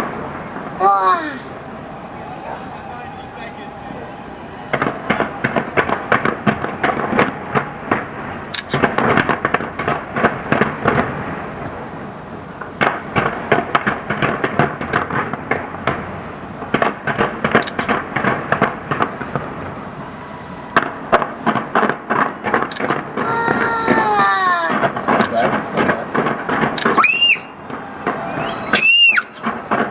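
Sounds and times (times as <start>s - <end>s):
fireworks bursting: 0.0s - 29.9s.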